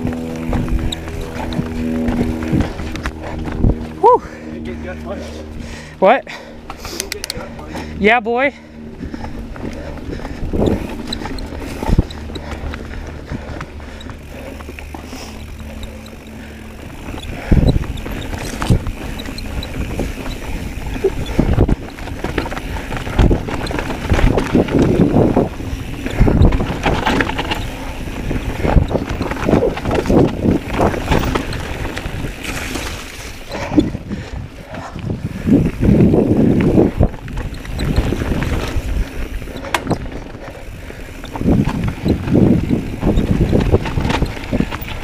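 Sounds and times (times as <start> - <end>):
bike knocking and rattling: 0.0 - 45.0
bike tyres on dirt: 0.0 - 45.0.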